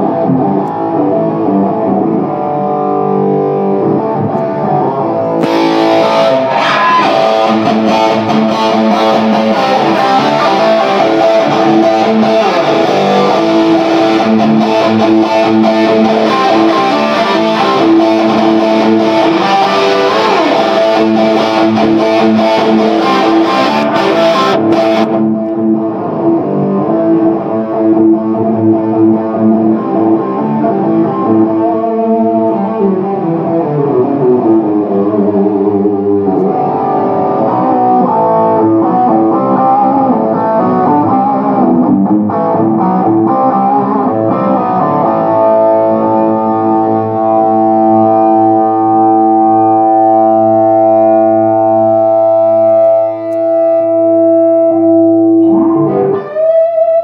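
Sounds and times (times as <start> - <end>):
electric guitar through tube amp: 0.0 - 57.0.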